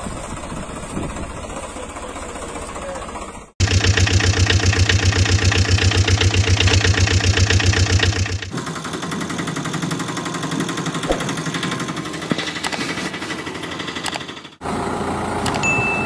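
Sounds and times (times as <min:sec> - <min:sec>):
engine chugging: 0:00.0 - 0:14.8.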